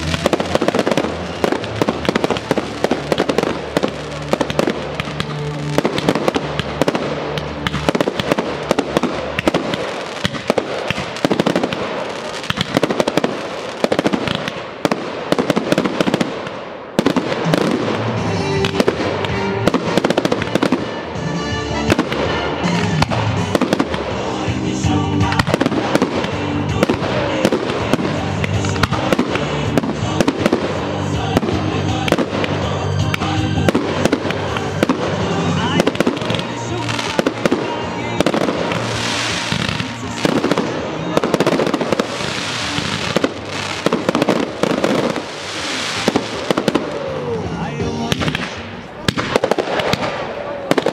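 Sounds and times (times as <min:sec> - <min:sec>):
fireworks bursting and crackling: 0:00.0 - 0:50.9
show music: 0:00.0 - 0:50.9.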